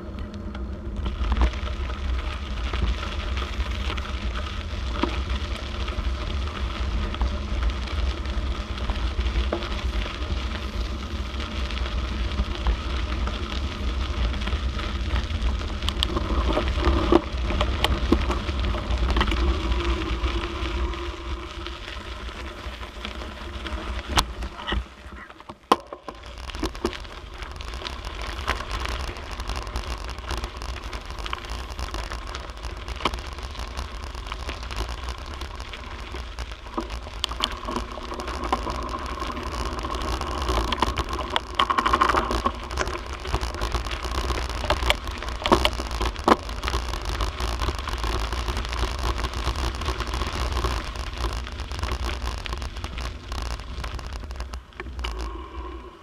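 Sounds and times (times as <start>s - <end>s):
bicycle rattling: 0.0s - 56.0s
bicycle tyres crunching on gravel: 0.0s - 56.0s
scattered clicks: 0.0s - 56.0s.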